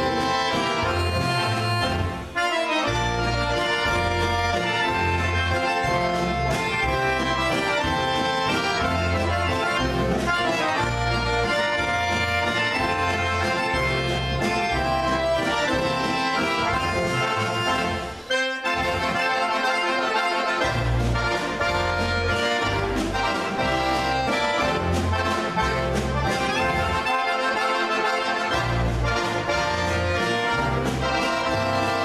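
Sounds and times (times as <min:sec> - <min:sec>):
acoustic guitar: 0:00.0 - 0:19.6, 0:20.6 - 0:32.0
accordions playing a tune: 0:00.0 - 0:32.0
double bass: 0:00.0 - 0:32.0.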